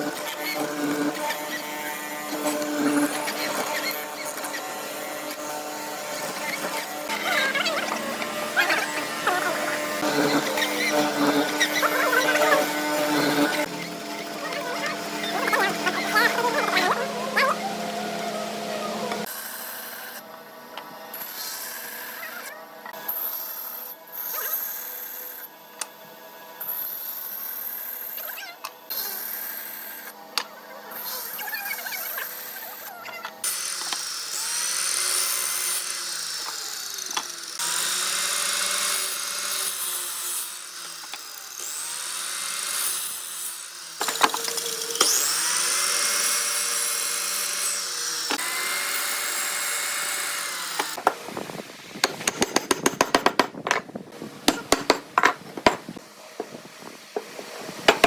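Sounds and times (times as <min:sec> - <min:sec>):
power tool working wood: 0:00.0 - 0:25.5, 0:28.9 - 0:58.0.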